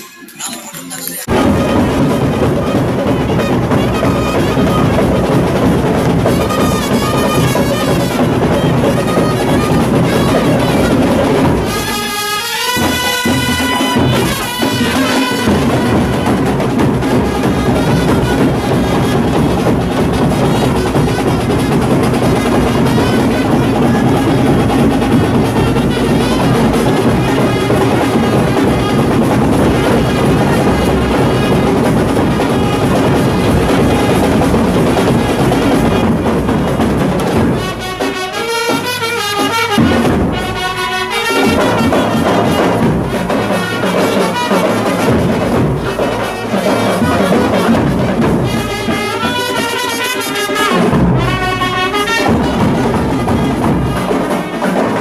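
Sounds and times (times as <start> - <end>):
dance music with brass and drums: 0.0 - 55.0.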